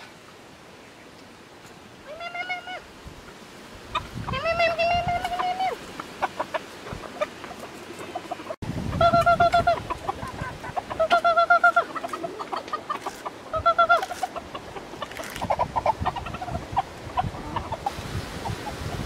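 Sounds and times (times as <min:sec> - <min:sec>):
chickens clucking: 0:02.1 - 0:19.0.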